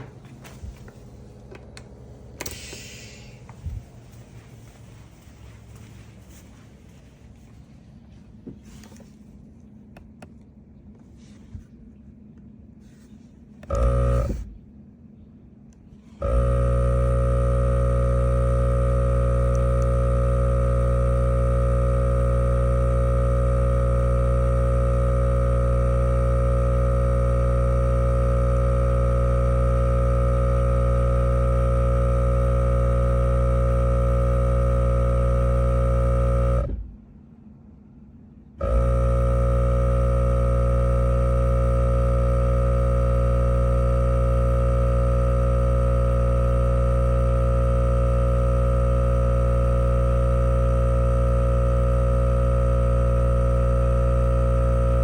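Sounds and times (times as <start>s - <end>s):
air compressor humming: 0.0s - 10.3s, 12.8s - 14.6s, 15.9s - 37.0s, 38.6s - 55.0s.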